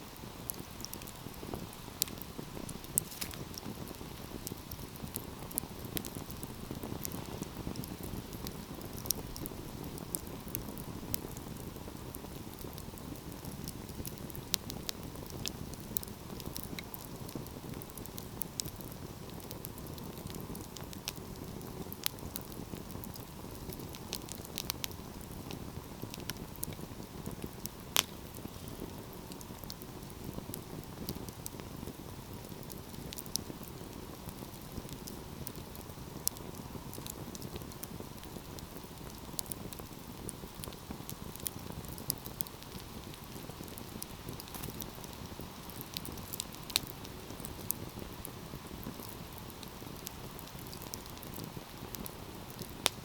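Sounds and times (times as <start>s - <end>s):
fire crackling and popping: 0.0s - 53.0s
flames rushing: 0.2s - 53.0s.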